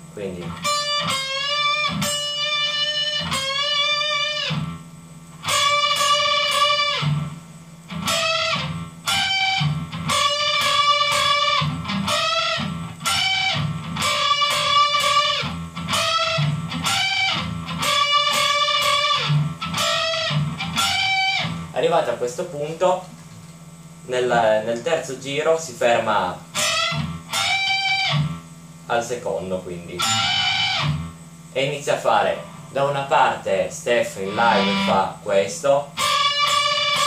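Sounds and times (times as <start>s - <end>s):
electric guitar bending notes: 0.0s - 22.3s, 25.6s - 28.8s, 29.6s - 37.0s.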